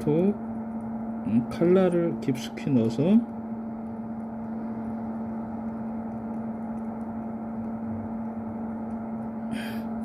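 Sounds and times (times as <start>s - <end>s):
fan-like noise: 0.0s - 10.0s
low steady hum: 0.0s - 10.0s.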